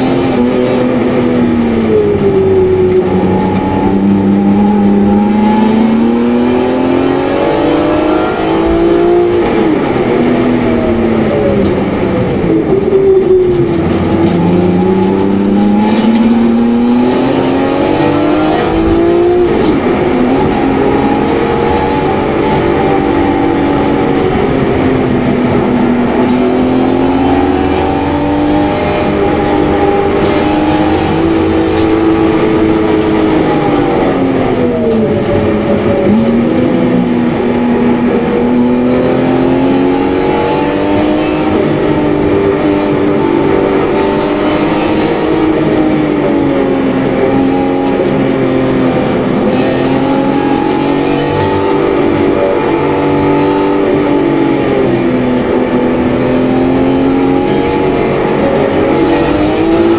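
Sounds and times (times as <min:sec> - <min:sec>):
car engine revving from inside: 0:00.0 - 0:09.6, 0:13.1 - 0:59.9.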